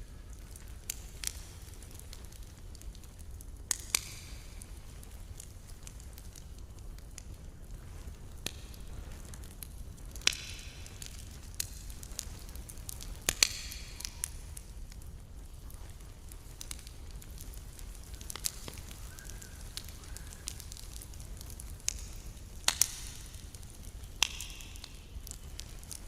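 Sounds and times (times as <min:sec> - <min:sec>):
fire low rumble: 0:00.0 - 0:26.0
wood fire crackling and popping: 0:00.0 - 0:26.0.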